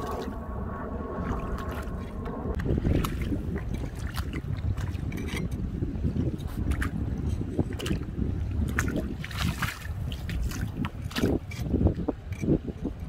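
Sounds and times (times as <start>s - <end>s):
wading in shallow water: 0.0s - 13.0s
wind rumble on microphone: 0.0s - 13.0s.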